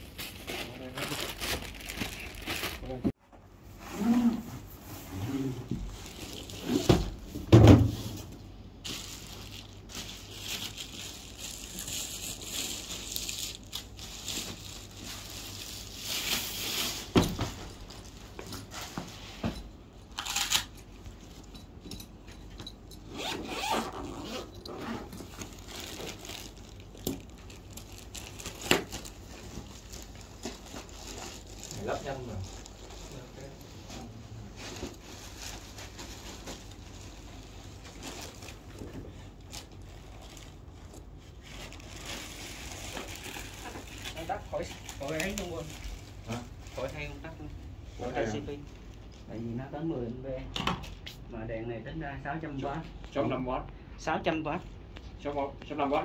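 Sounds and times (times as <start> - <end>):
rustling and scraping: 0.0 - 49.4.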